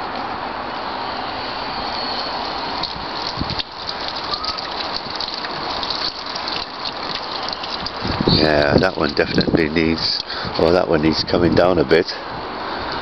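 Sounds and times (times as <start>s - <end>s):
water gushing and splashing: 0.9s - 11.4s.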